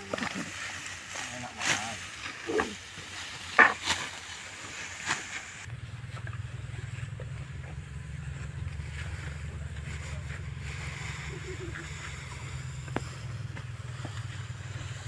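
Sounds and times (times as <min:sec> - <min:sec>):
sickle cutting dry stalks: 0:00.0 - 0:06.3, 0:08.3 - 0:15.0
steady low rumble: 0:00.4 - 0:15.0.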